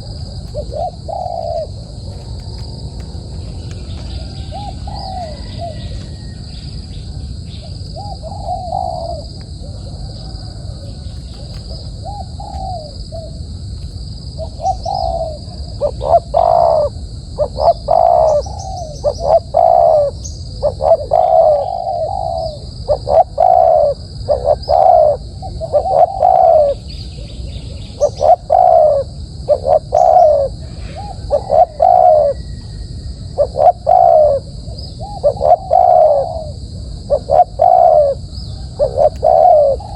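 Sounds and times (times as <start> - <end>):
dove cooing: 0.0 - 13.6, 14.4 - 39.9.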